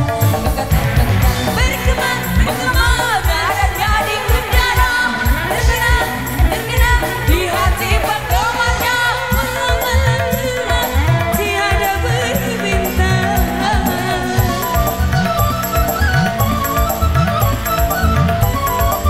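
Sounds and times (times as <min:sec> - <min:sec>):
keyboard: 0:00.0 - 0:19.0
low drum beat: 0:00.0 - 0:19.0
woman singing: 0:00.0 - 0:19.0.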